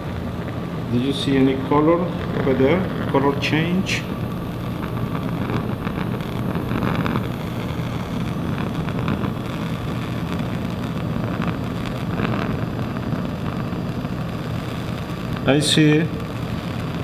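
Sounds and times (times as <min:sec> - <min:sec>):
gas burner flame rushing: 0:00.0 - 0:17.0.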